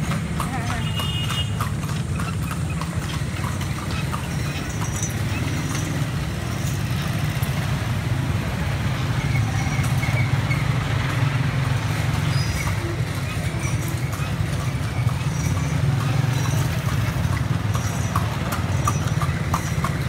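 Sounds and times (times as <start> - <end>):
horse-drawn carriage rolling: 0.0 - 20.0.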